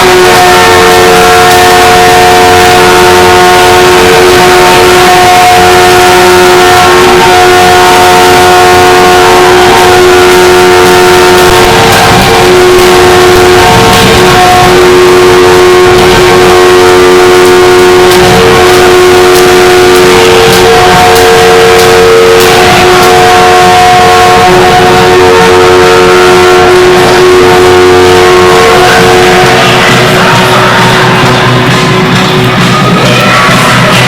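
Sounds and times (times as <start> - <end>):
crowd noise: 0.0 - 34.0
hockey goal horn blaring: 0.0 - 34.0.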